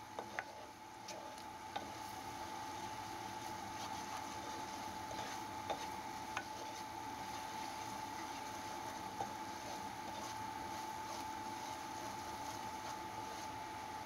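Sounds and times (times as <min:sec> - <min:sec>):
curry bubbling and sizzling in a pan: 0:00.0 - 0:14.0
steady thin whine: 0:00.0 - 0:14.0
wooden spoon stirring: 0:00.0 - 0:14.0.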